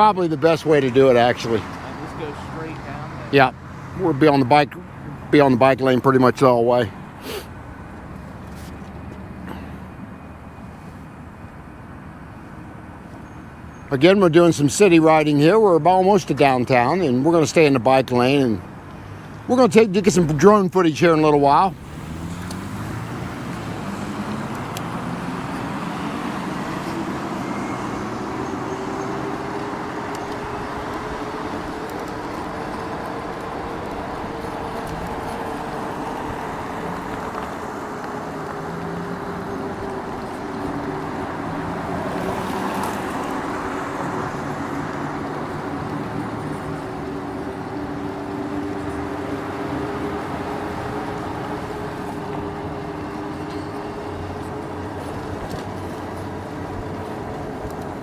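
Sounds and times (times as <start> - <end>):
city traffic and road noise: 0.0 - 58.0
vehicle passing rush: 0.0 - 58.0.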